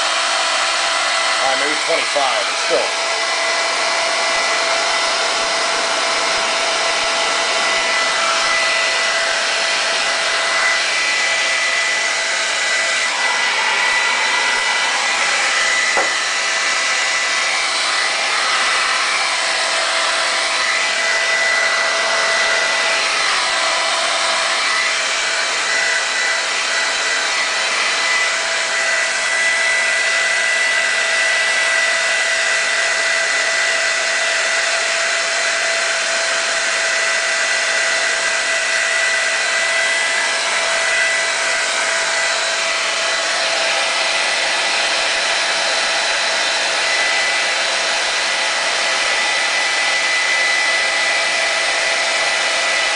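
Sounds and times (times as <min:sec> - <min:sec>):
hair dryer air rush: 0:00.0 - 0:52.9.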